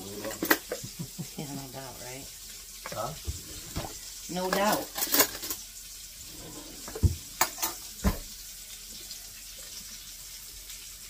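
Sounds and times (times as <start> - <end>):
patties sizzling in a pan: 0.0 - 11.0.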